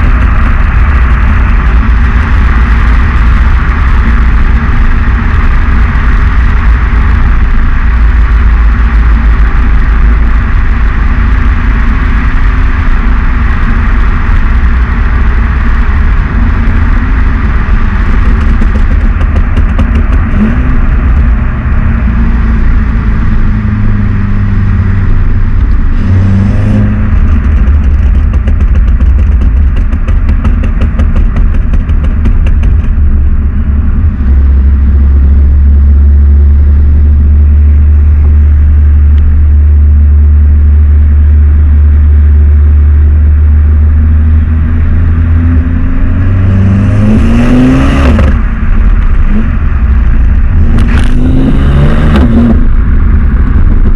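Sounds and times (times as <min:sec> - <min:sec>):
car engine exhaust drone: 0:00.0 - 0:53.9.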